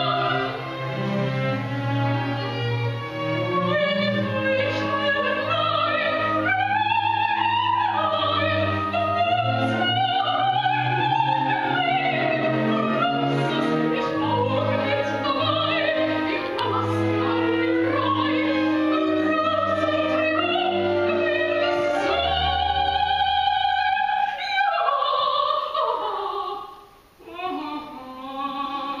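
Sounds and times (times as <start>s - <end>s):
woman singing opera: 0.0s - 0.8s, 3.4s - 29.0s.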